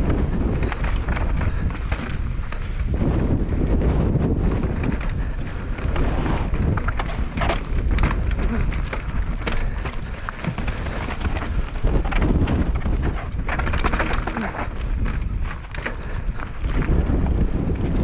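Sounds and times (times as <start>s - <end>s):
bike rattling over bumps: 0.0s - 18.0s
bike tyres rolling on dirt: 0.0s - 18.0s
wind buffeting microphone: 0.0s - 18.0s.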